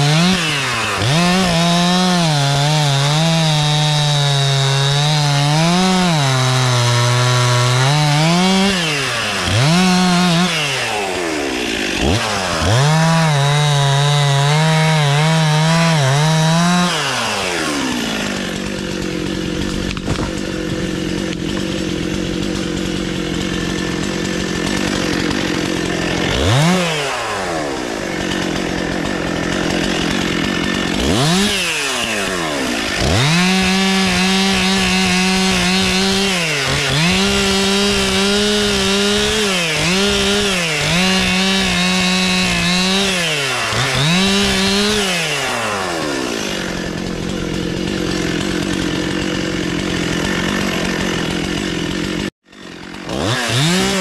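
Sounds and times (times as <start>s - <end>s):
chainsaw cutting wood: 0.0s - 54.0s
chainsaw idling: 0.0s - 54.0s.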